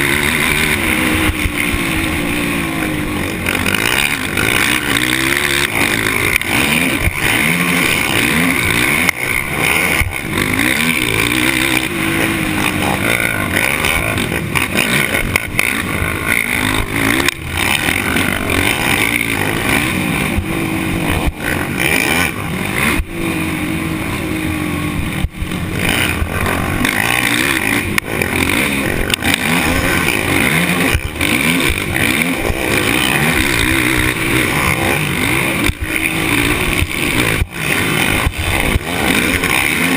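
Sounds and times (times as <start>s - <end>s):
racing engine revving: 0.0s - 39.9s.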